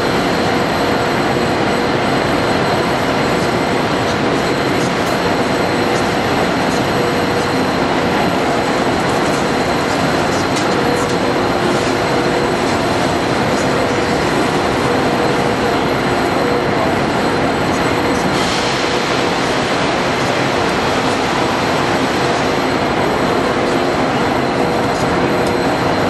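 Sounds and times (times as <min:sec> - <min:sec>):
train pulling into station: 0:00.0 - 0:26.0.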